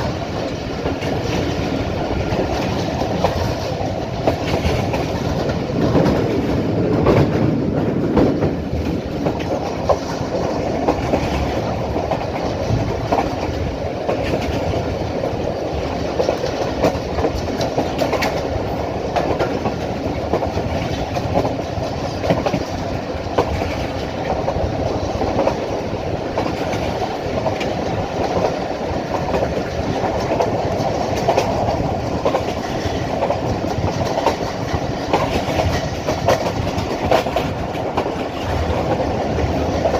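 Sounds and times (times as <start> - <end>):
train wheels rumbling on track: 0.0 - 39.9
wheels clicking over rail joints: 0.0 - 39.9.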